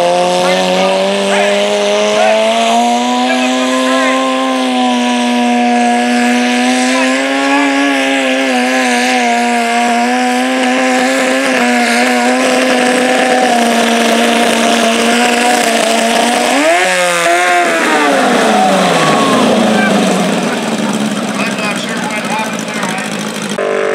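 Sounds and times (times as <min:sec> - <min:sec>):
garden tractor engine at high revs: 0:00.0 - 0:23.9.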